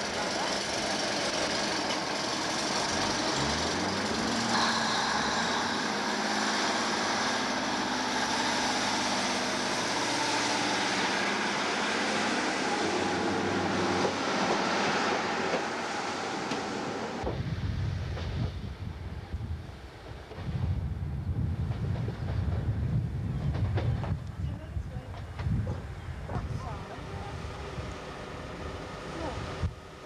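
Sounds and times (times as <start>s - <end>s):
train engine revving: 0.0s - 30.0s.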